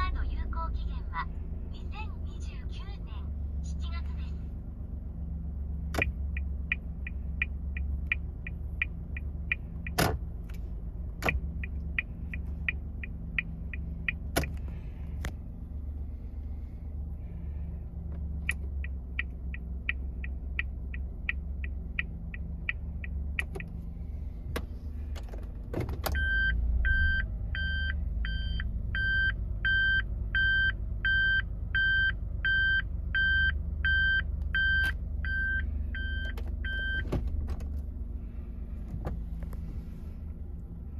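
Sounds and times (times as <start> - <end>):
car engine idling: 0.0 - 40.9
turn signal ticking: 5.1 - 15.6, 17.0 - 40.9.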